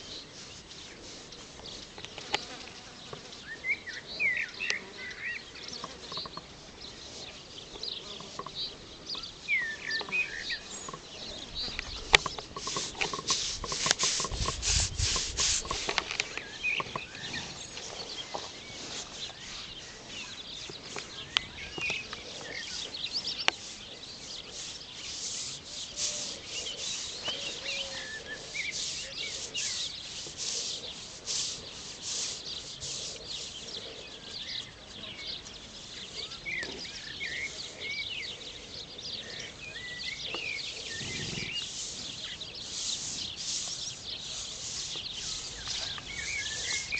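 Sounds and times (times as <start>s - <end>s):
scratching on horse coat: 0.0s - 3.3s, 5.7s - 8.8s, 9.8s - 38.0s, 40.3s - 46.9s
birds chirping: 0.0s - 46.9s.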